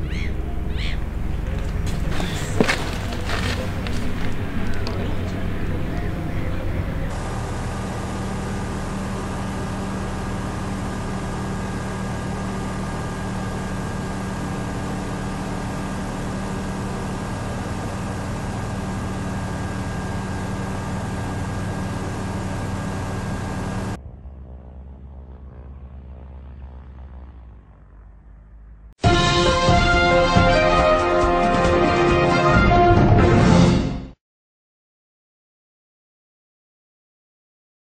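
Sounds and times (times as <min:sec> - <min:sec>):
light aircraft engine drone: 0:00.0 - 0:31.4.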